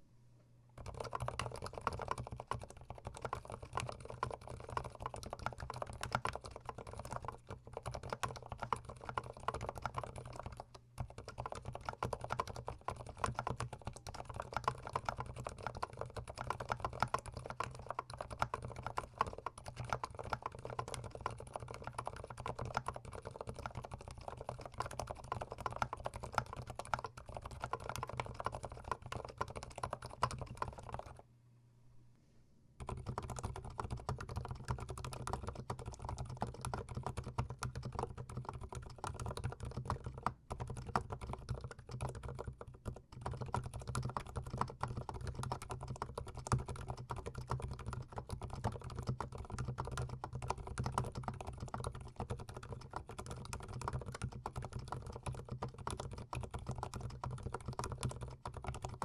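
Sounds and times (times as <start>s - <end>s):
mechanical keyboard typing: 0.8s - 31.2s, 32.8s - 59.0s.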